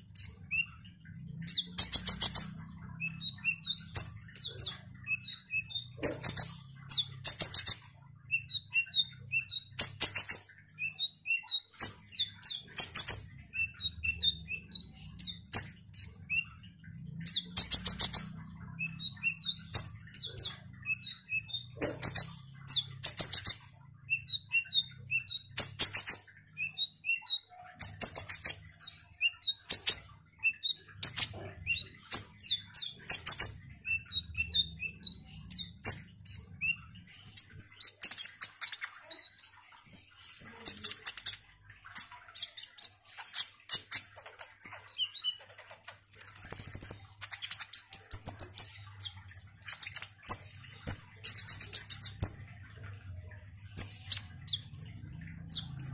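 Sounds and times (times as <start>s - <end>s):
sunbird singing buzzy trills: 0.0s - 55.9s.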